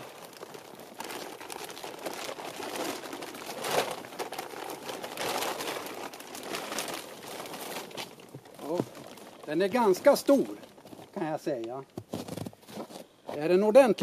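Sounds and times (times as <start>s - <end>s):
plastic tarp rustling: 0.0s - 13.9s.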